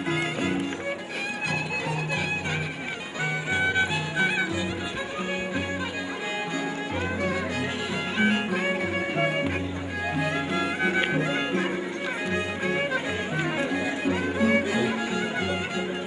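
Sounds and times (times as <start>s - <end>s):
folk dance music on harp and violin: 0.0s - 16.0s.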